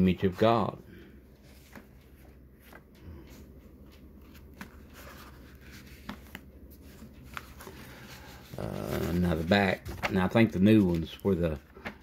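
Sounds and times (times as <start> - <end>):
book pages turning: 1.3 - 12.0.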